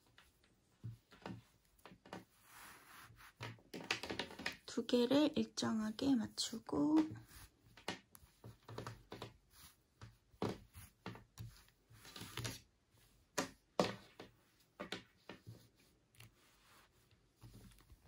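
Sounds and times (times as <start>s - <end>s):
soft rustles and taps of yarn: 0.0s - 18.0s.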